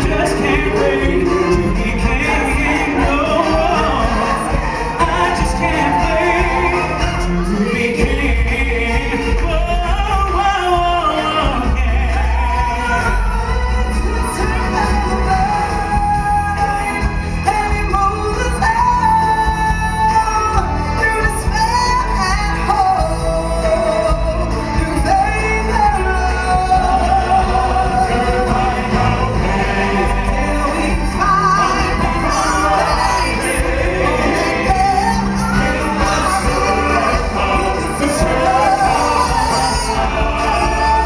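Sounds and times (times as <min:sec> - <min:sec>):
band accompaniment with bass: 0:00.0 - 0:41.0
singers performing: 0:00.0 - 0:41.0.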